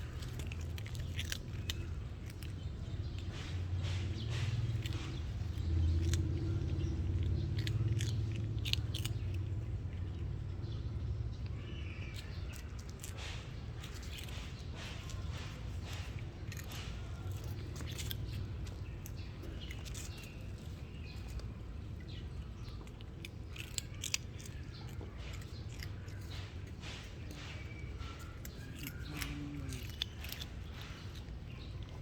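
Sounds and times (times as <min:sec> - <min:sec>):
cat chewing food: 0:00.0 - 0:32.0.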